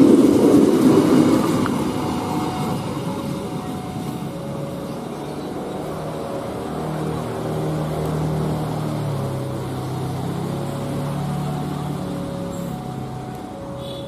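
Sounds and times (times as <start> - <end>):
train wheel rumble: 0.0 - 13.5
train engine drone: 0.0 - 14.0.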